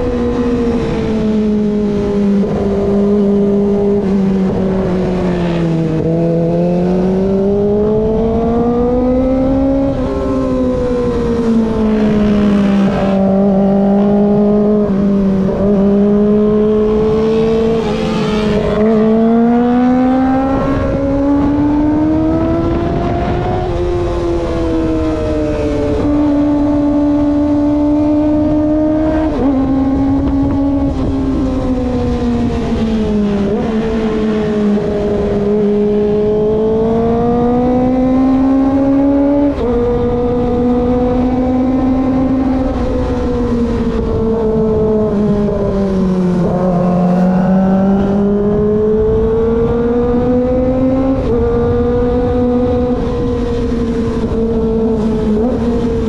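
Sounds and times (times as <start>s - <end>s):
motorcycle engine at high revs: 0.0s - 56.0s
wind noise: 0.0s - 56.0s.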